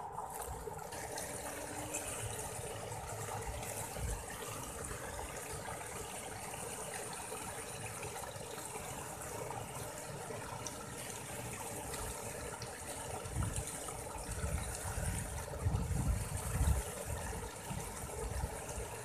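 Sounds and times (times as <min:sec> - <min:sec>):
stream splashing into pool: 0:00.0 - 0:19.0.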